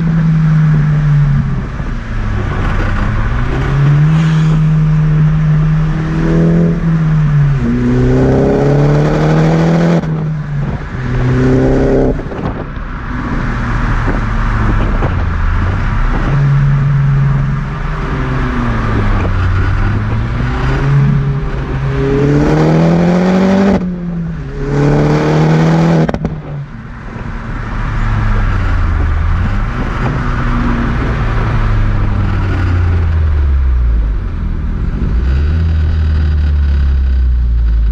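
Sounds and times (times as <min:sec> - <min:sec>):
car exhaust revving through gears: 0:00.0 - 0:37.9.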